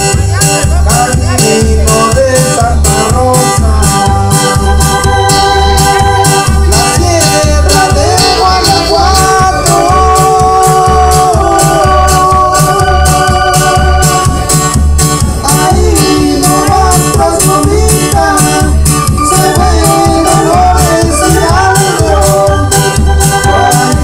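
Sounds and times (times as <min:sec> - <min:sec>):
bass thump: 0:00.0 - 0:24.0
high percussion beat: 0:00.0 - 0:24.0
keyboard sustained notes: 0:02.6 - 0:24.0.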